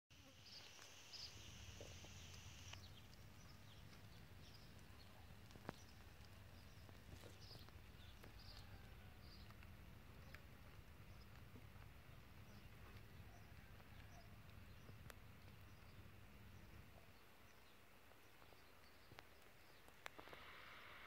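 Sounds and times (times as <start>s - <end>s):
distant birds chirping: 0.2s - 21.0s.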